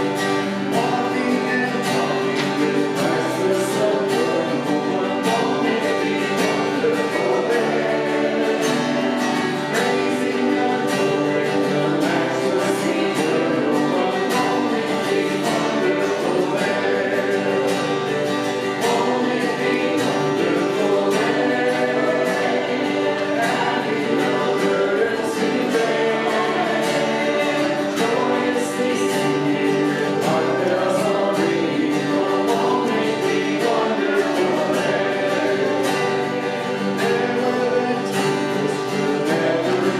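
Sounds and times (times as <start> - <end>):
group of voices singing gospel: 0.0 - 39.9
instrumental accompaniment: 0.0 - 39.9.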